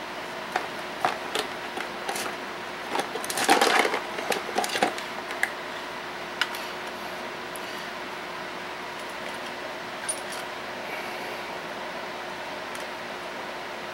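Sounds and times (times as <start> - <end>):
steady background hum: 0.0 - 13.9.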